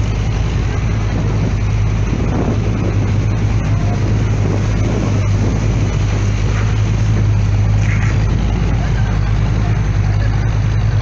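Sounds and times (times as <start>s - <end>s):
continuous rushing noise: 0.0s - 11.0s
ship engines droning: 0.0s - 11.0s.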